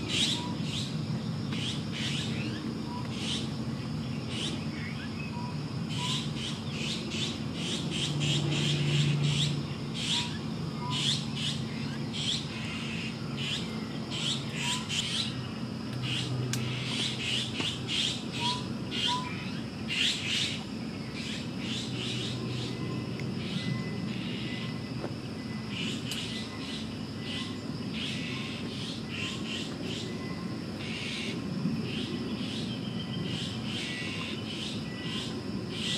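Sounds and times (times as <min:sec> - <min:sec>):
low background hum: 0:00.0 - 0:35.9.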